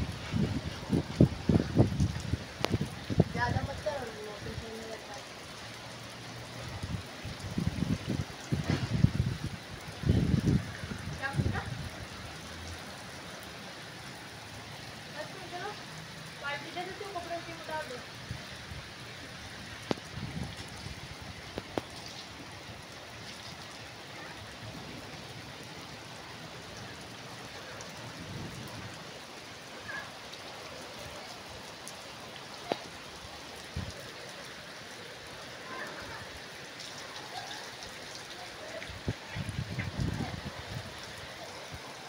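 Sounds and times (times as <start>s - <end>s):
rain on concrete roof: 0.0s - 42.0s.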